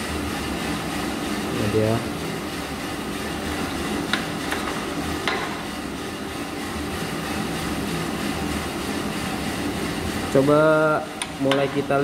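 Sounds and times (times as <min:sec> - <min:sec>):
coffee roaster motor humming: 0:00.0 - 0:12.0.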